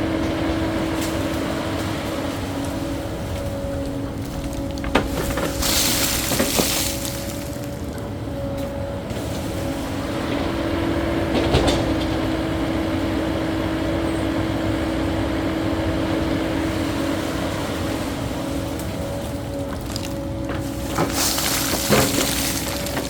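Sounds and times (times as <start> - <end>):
excavator engine droning: 0.0 - 23.0.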